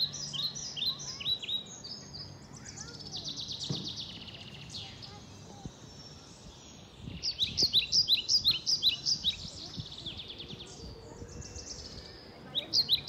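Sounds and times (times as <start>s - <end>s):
songbird chirping and trilling: 0.0s - 13.0s.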